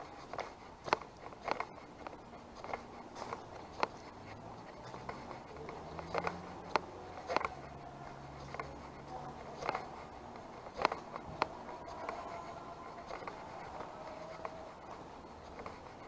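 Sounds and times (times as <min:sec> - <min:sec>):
faint low hum: 0:00.0 - 0:16.0
footsteps on paved path: 0:00.0 - 0:16.0.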